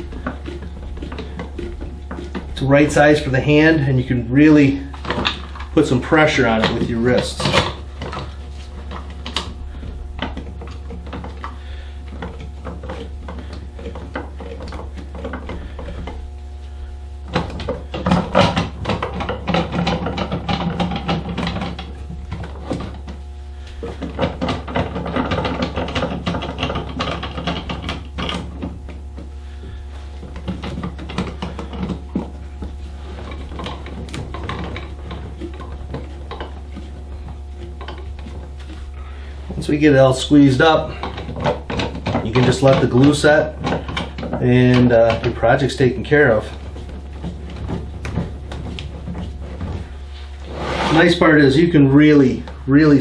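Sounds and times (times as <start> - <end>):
bar clamps clicking and rasping: 0.0 - 53.0.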